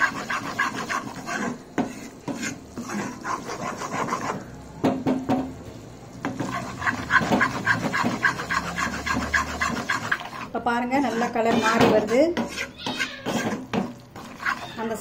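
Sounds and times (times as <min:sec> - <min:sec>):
metal spatula scraping a pan: 0:00.0 - 0:04.4, 0:06.3 - 0:15.0.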